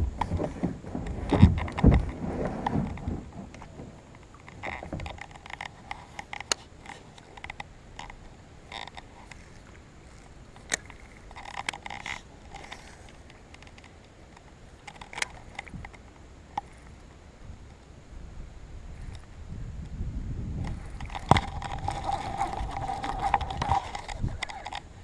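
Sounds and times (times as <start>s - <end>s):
faint low wind rumble: 0.0s - 25.0s.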